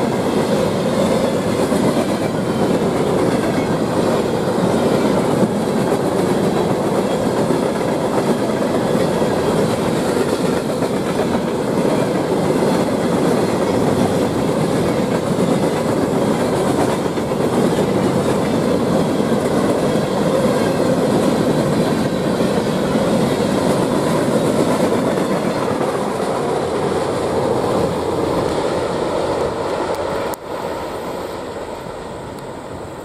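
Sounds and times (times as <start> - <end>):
steel wheels on rail: 0.0 - 33.0.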